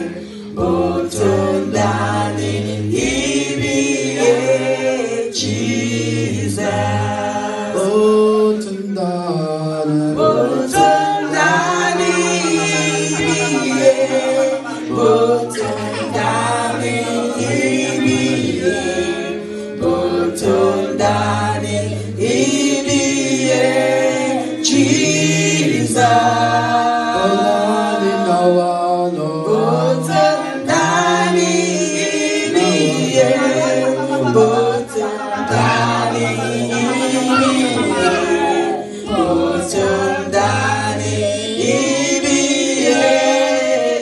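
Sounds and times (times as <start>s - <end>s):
man and woman singing: 0.0s - 44.0s.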